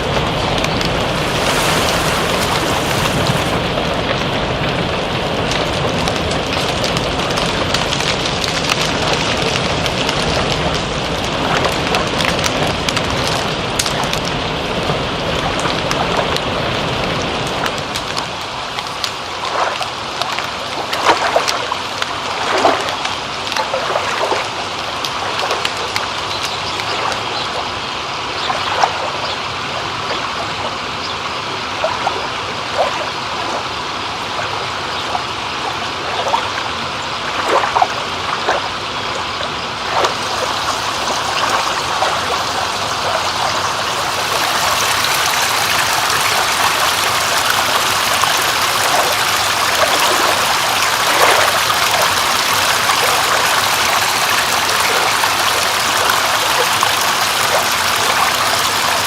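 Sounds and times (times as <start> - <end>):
rain hissing: 0.0 - 20.9, 24.5 - 59.0
trickling running water: 0.0 - 59.0
water drips and splashes: 0.0 - 59.0.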